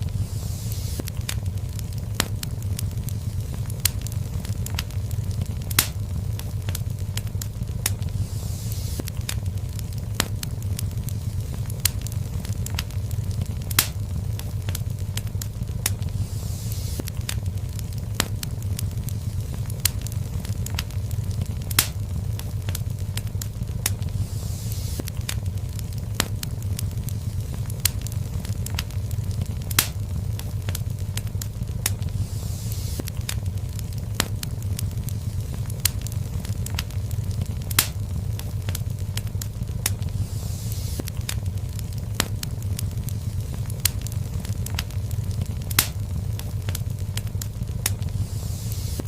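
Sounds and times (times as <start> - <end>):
fire hissing: 0.0 - 49.0
fireplace fire crackling: 0.0 - 49.0.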